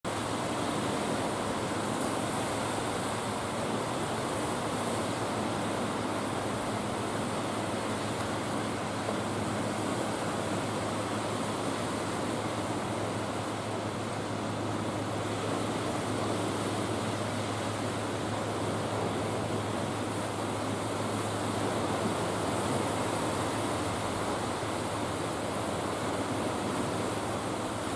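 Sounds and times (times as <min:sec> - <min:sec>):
sea water rushing: 0:00.1 - 0:27.9.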